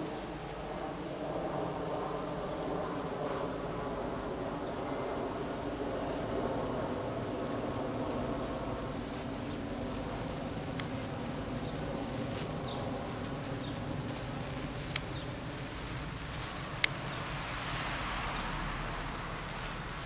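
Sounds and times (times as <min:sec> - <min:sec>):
low droning hum: 0:00.0 - 0:20.0.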